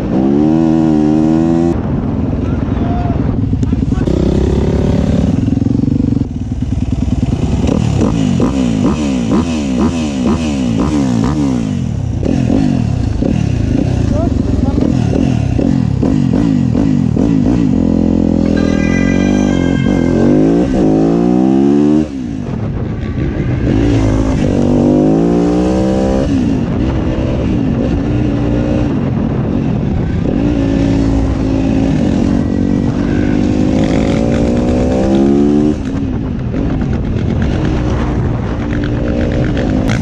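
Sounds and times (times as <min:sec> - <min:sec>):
motorcycle engine accelerating: 0:03.2 - 0:40.0.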